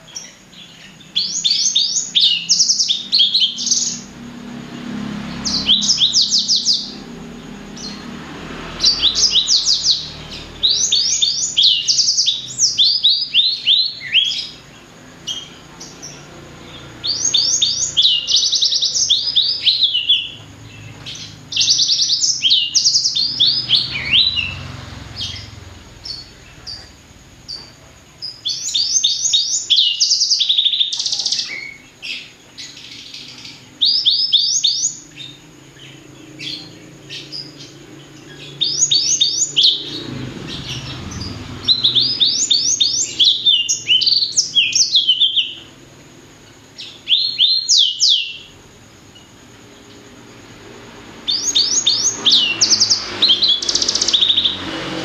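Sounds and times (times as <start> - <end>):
finch singing rapid trills: 0.0 - 55.0.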